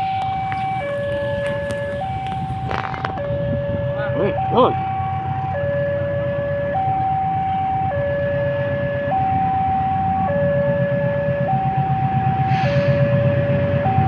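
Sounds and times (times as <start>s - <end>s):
diesel locomotive engine rumble: 0.0s - 14.0s
two-tone warning alarm: 0.0s - 14.0s.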